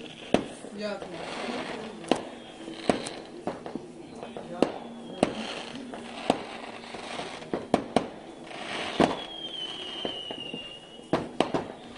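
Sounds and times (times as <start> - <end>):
firecracker bangs: 0.0 - 11.9
firework whistle: 0.0 - 11.9.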